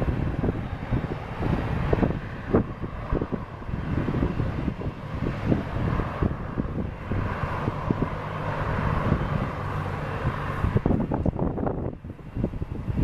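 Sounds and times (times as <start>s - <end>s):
jet engines running: 0.0s - 13.0s
wind buffeting microphone: 0.0s - 13.0s.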